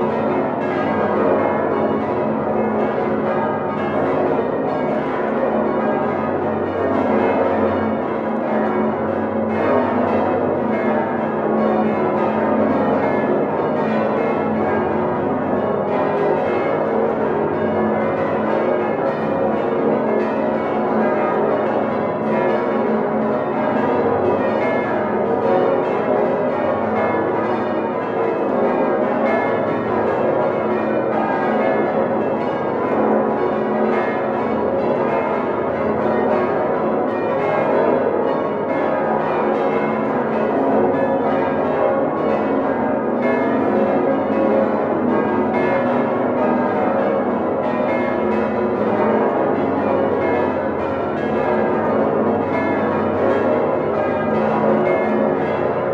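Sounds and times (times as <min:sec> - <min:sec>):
large church bells ringing: 0:00.0 - 0:55.9.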